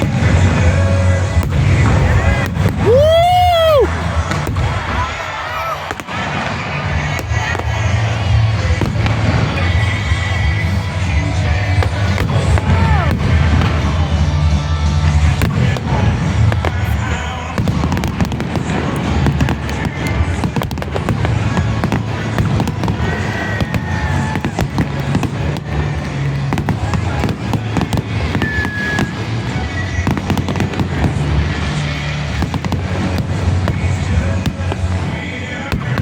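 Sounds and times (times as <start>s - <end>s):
fireworks bursting and crackling: 0.0s - 36.0s
music with low bass: 6.8s - 36.0s.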